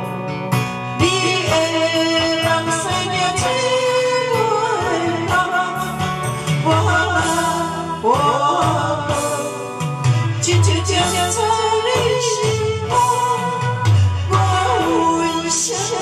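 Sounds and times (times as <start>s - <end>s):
karaoke backing track: 0.0s - 16.0s
woman singing into microphone: 0.8s - 16.0s.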